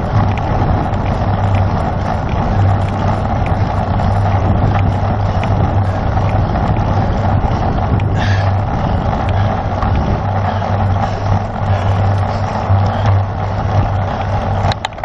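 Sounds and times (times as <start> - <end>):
bicycle tyre noise: 0.0 - 15.0
low hum: 0.0 - 15.0
wind rush on microphone: 0.0 - 15.0.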